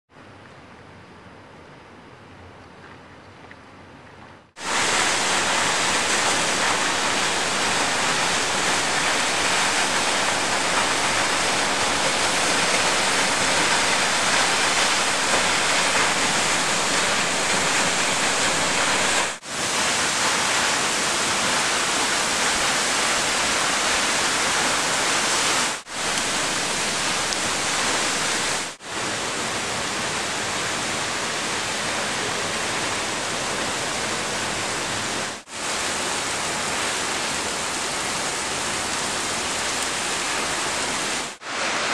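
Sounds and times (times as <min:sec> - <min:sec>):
waterfall rushing and splashing: 0:04.6 - 0:41.9.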